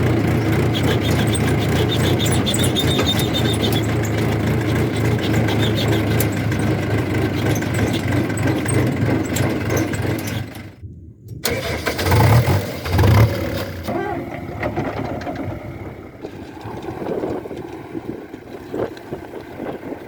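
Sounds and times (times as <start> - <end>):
diesel engine running: 0.0 - 10.8, 11.4 - 20.0
engine surges: 0.0 - 10.8, 11.4 - 20.0.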